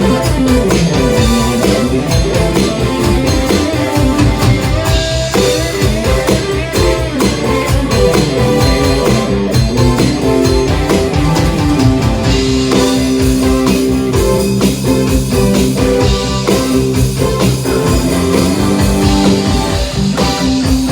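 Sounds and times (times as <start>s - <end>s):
drum kit beat: 0.0s - 20.9s
electric guitar: 0.0s - 20.9s.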